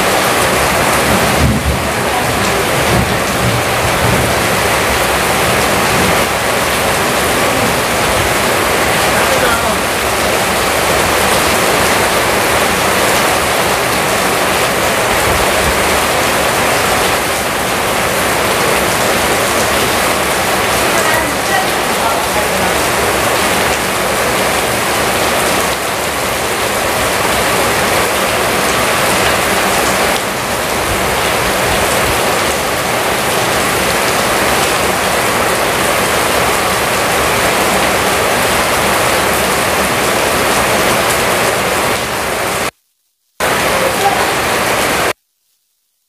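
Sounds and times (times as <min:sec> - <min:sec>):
rain on pavement: 0:00.0 - 0:42.7, 0:43.4 - 0:45.2.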